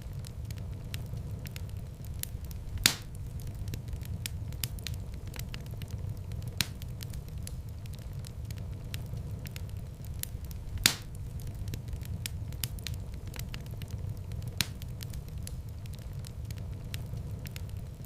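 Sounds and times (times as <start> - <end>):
fire crackles and pops: 0.0 - 18.0
low rumble of flames: 0.0 - 18.0.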